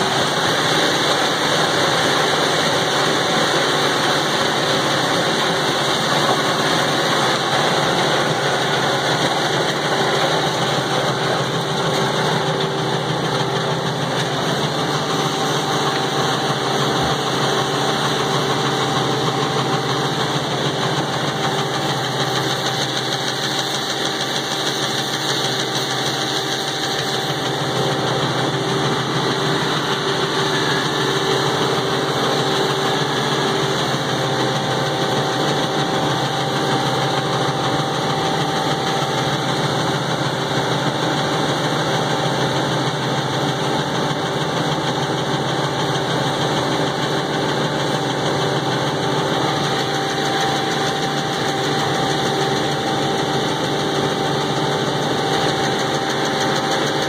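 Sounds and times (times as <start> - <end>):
wood grinder engine running: 0.0 - 57.0.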